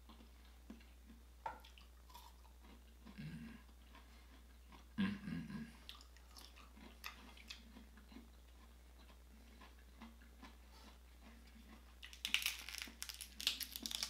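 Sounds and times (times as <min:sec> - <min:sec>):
person chewing and crunching: 0:00.0 - 0:14.0.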